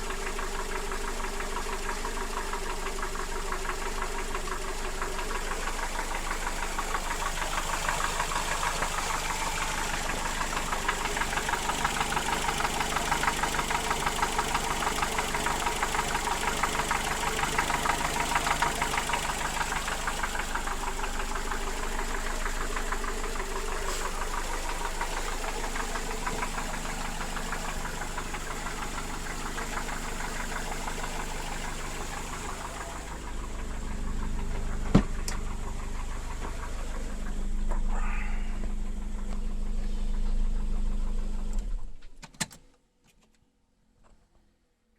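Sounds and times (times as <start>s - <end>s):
petrol engine knocking: 0.0s - 41.0s.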